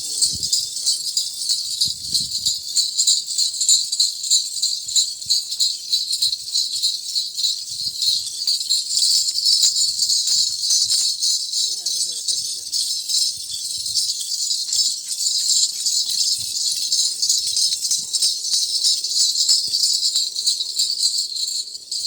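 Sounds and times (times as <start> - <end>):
goat bells jingling: 0.0 - 22.0.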